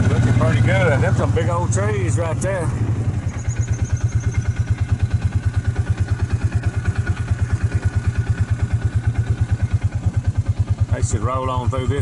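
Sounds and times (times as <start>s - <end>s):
utility vehicle engine throbbing: 0.0s - 12.0s.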